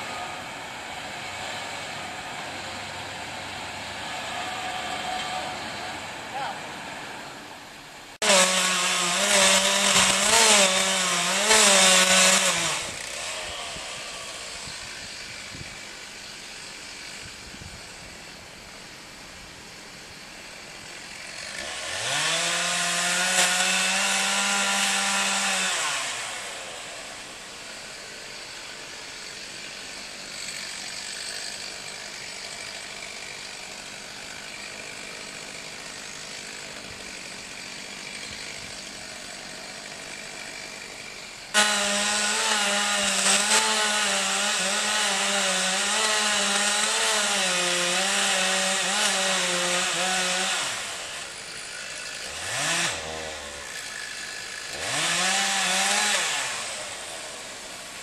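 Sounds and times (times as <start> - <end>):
chainsaw running: 0.0 - 7.1, 8.1 - 19.0, 19.7 - 58.0.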